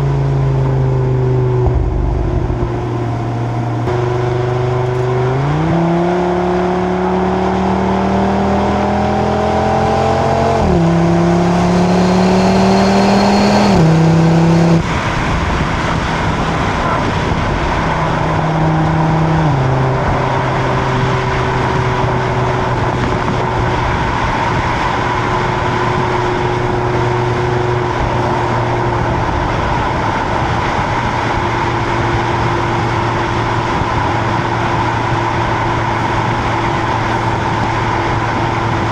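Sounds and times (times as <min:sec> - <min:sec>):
car exhaust accelerating: 0:00.0 - 0:38.9.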